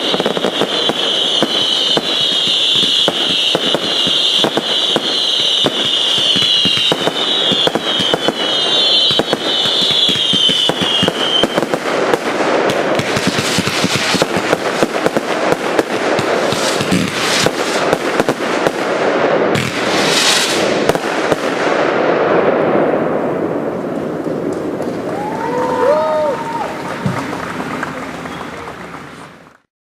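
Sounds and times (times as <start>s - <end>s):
fireworks crackling and banging: 0.0s - 29.7s
fireworks whistling: 0.0s - 29.7s.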